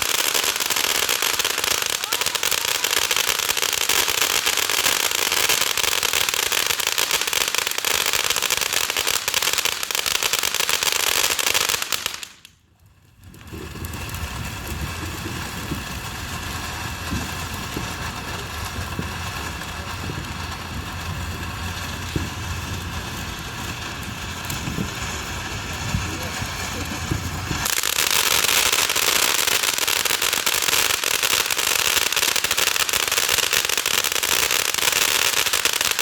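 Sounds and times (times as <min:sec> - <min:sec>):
firework crackling: 0:00.0 - 0:36.0.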